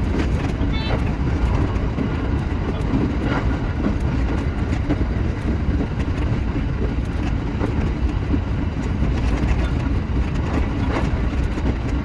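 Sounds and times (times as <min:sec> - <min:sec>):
train rumbling: 0:00.0 - 0:12.0
wheels clicking on track: 0:00.0 - 0:12.0.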